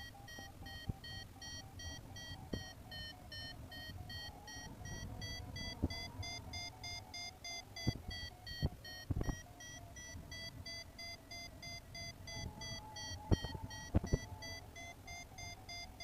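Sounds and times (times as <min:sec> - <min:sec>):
variometer short beeps: 0:00.0 - 0:16.0.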